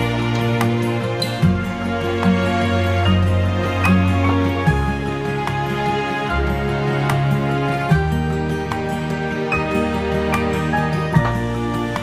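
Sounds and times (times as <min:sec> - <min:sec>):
background music with chords: 0:00.0 - 0:12.0.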